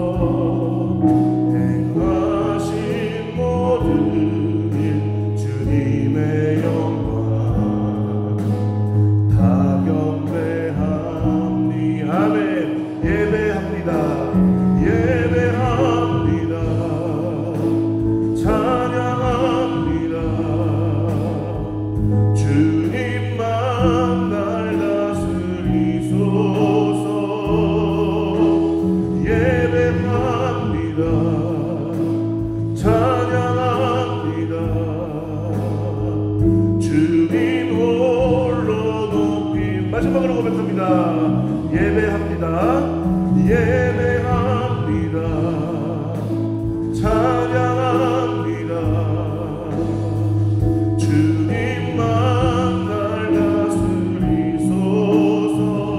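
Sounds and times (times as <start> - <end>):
drums: 0.0 - 55.9
electric bass: 0.0 - 55.9
keyboard: 0.0 - 55.9.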